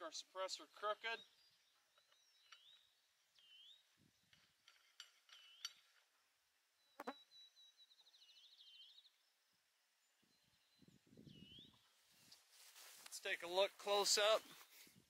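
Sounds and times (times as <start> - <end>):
bird calls and trill: 0.7 - 12.5, 13.9 - 14.9.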